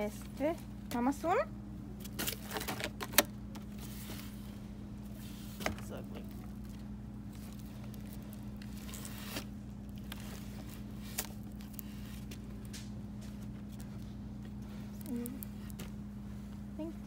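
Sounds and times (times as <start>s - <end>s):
steady low hum: 0.0s - 17.0s
wrapping paper rustling: 2.0s - 16.3s.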